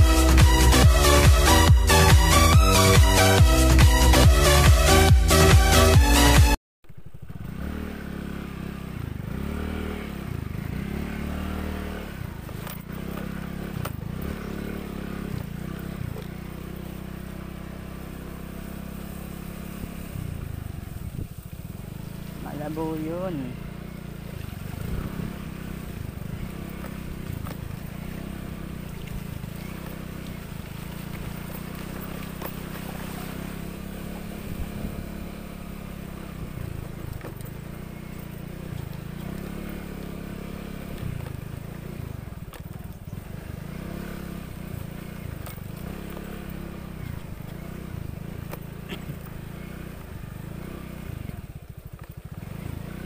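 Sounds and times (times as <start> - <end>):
motorcycle engine running: 0.0 - 53.0
motorcycle knocking over bumps: 6.9 - 53.0.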